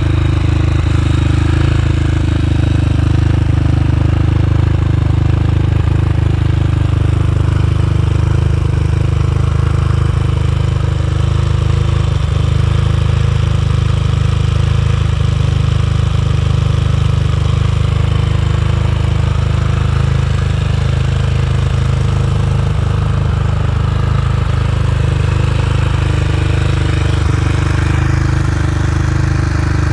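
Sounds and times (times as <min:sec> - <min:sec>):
dirt bike engine idling: 0:00.0 - 0:29.9.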